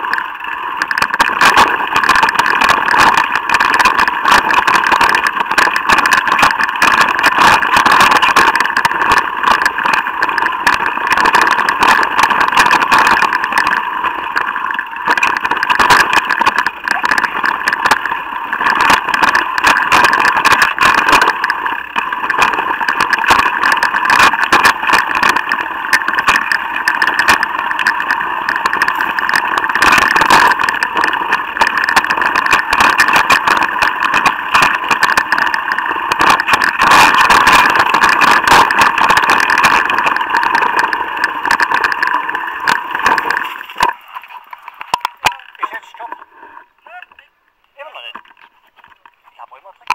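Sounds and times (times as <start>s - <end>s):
bike rattling and knocking: 0.0s - 46.3s, 47.8s - 49.2s
bike drivetrain buzz: 0.0s - 46.8s.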